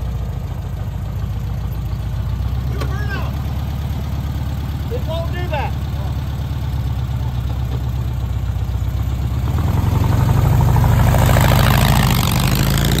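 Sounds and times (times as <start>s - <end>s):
trike engine idling and pulling away: 0.0s - 13.0s.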